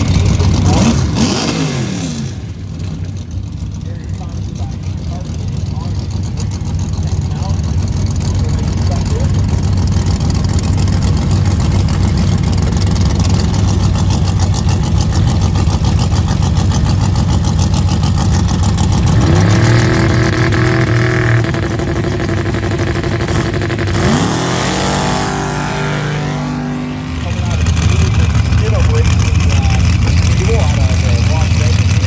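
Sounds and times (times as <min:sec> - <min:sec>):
race engine revving: 0:00.0 - 0:32.0.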